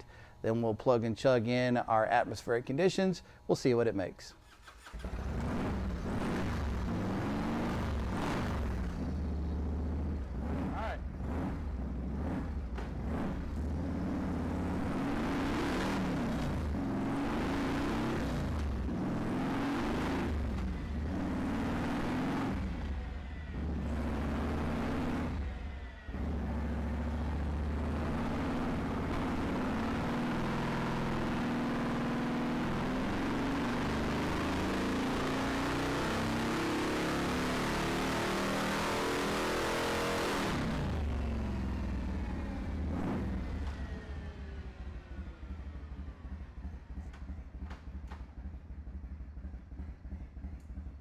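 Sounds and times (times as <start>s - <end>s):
motorcycle engine on dynamometer: 4.8s - 51.0s.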